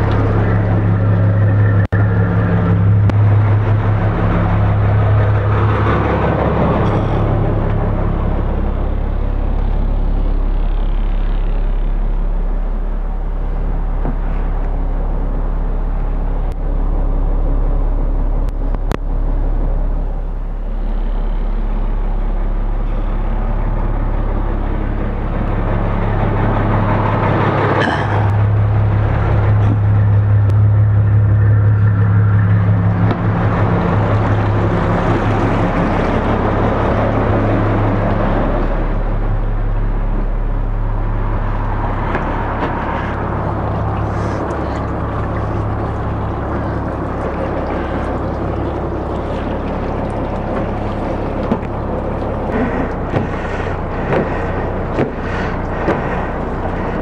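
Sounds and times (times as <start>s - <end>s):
boat engines idling: 0.0s - 57.0s.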